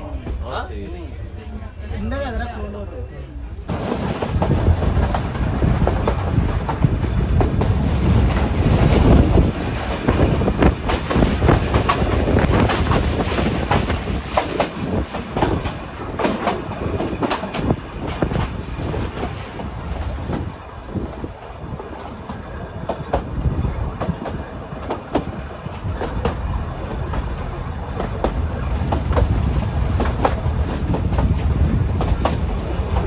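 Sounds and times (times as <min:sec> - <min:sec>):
train rumble: 0:00.0 - 0:33.0
wheels clattering over rail joints: 0:03.7 - 0:33.0.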